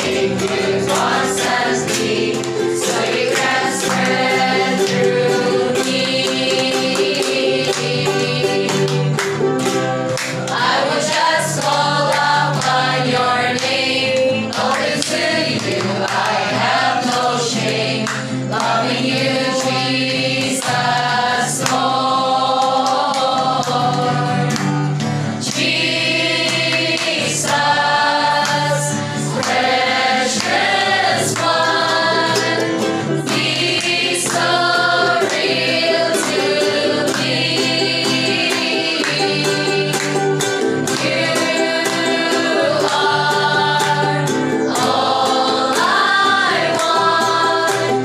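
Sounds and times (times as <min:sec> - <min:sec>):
women singing worship song: 0:00.0 - 0:09.2, 0:10.4 - 0:48.0
acoustic guitar: 0:00.0 - 0:48.0.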